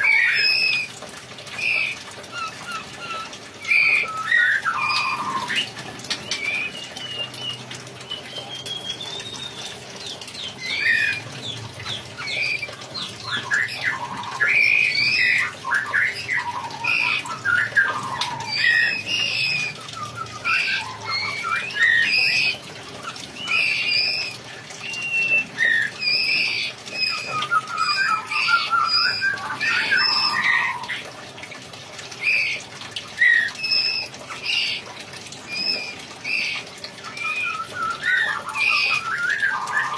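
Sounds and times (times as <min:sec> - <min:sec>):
songbird singing: 0:00.0 - 0:31.0, 0:35.4 - 0:39.9.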